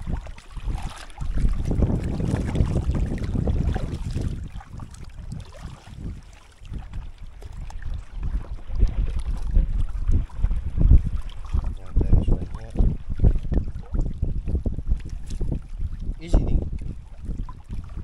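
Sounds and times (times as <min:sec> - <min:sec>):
water sloshing and splashing: 0:00.0 - 0:18.0
wind buffeting microphone: 0:00.0 - 0:18.0.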